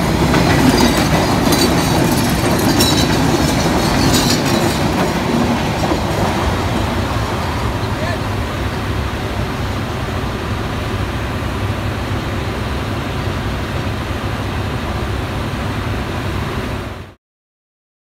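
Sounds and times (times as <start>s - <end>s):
train low rumble: 0.0s - 17.2s.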